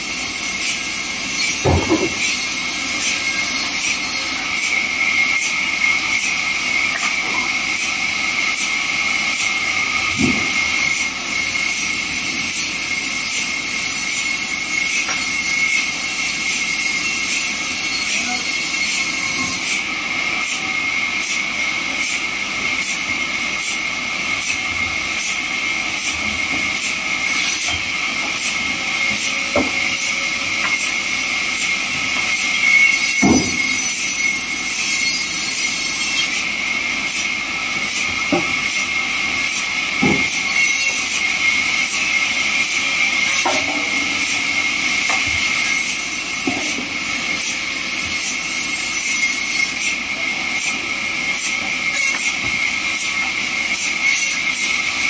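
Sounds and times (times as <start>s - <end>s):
band saw cutting through a log: 0.0s - 55.0s.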